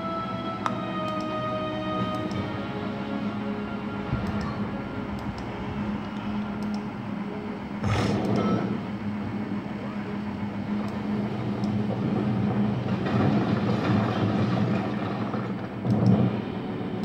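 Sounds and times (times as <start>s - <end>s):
film soundtrack through laptop speakers: 0.0s - 17.0s.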